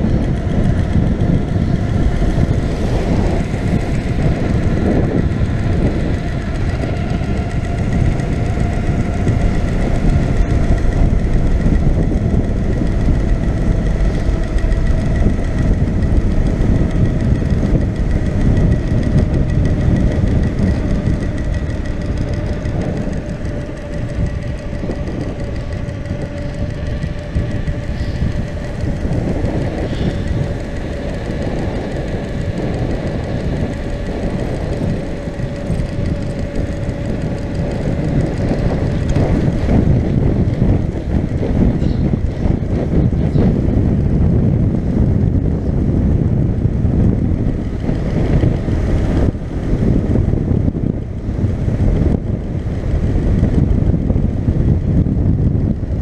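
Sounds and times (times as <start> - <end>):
bike rattling on gravel: 0.0 - 56.0
wind on microphone: 0.0 - 56.0.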